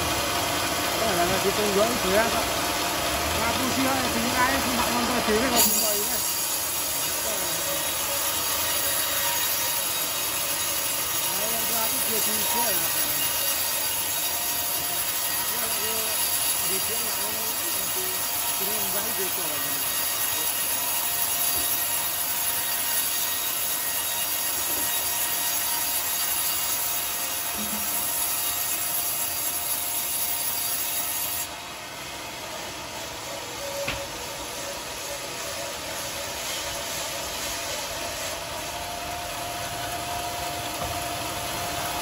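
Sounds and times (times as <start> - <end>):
sawmill machine drive: 0.0 - 42.0
band saw rasping through log: 0.9 - 31.6, 32.3 - 42.0.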